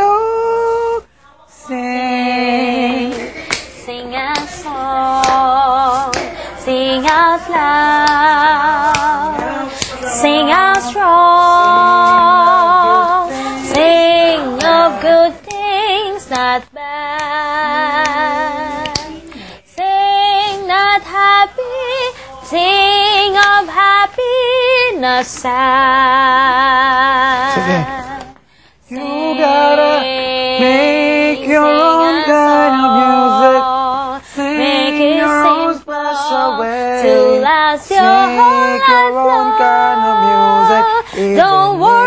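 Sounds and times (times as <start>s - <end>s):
woman singing with vibrato: 0.0s - 42.0s.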